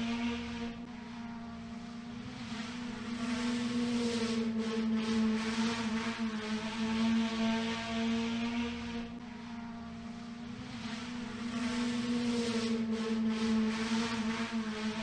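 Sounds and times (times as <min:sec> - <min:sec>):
race car engine drone: 0:00.0 - 0:15.0.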